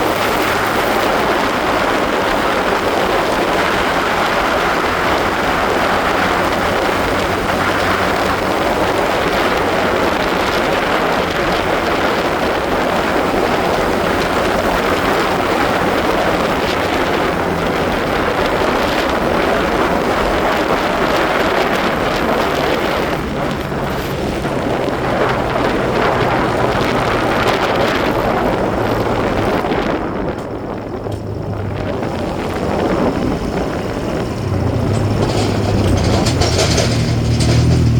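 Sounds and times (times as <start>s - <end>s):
motorcycle engine running: 0.0s - 37.9s
wind noise on microphone: 0.0s - 37.9s.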